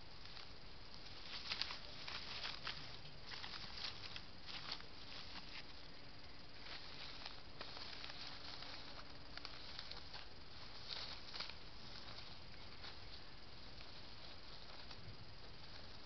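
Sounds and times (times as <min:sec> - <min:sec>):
faint low hum: 0:00.0 - 0:16.0
hedgehog rustling in dry leaves: 0:00.0 - 0:16.0
steady hiss: 0:00.0 - 0:16.0.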